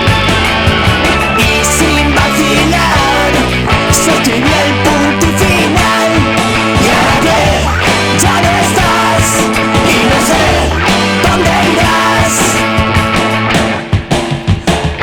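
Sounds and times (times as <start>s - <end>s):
drums and cymbals: 0.0s - 15.0s
rock band song: 0.0s - 15.0s.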